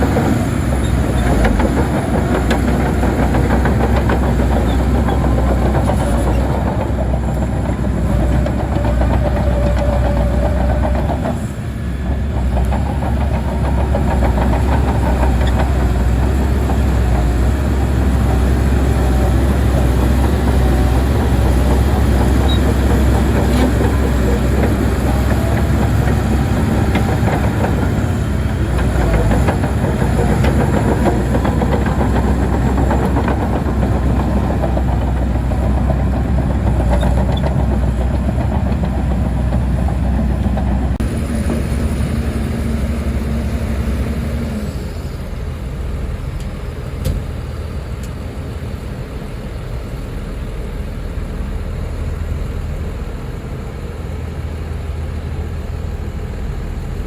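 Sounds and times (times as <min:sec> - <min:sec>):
diesel machinery engine rumble: 0:00.0 - 0:57.0.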